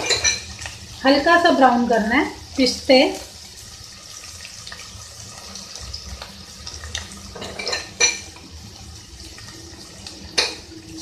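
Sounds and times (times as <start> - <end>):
nuts sizzling in fat: 0.0 - 11.0.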